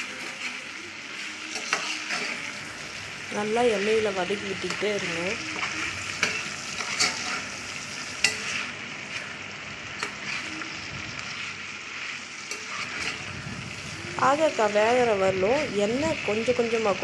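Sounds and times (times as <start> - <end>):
spatula stirring in pan: 0.0 - 14.8
vegetables sizzling in oil: 0.0 - 17.0.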